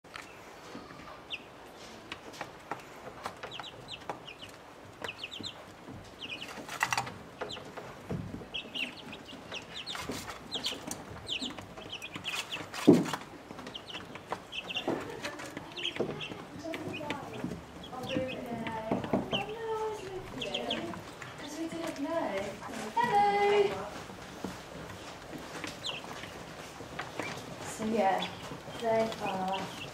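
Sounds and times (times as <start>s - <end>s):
chicks peeping: 0.1s - 29.9s.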